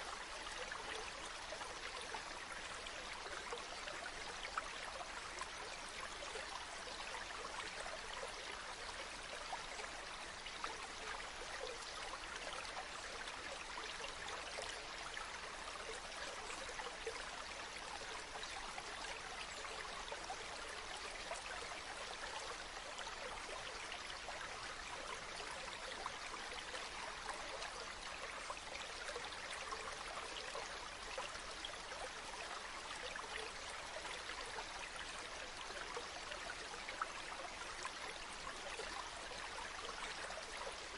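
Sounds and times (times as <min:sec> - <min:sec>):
stream water running: 0:00.0 - 0:40.9.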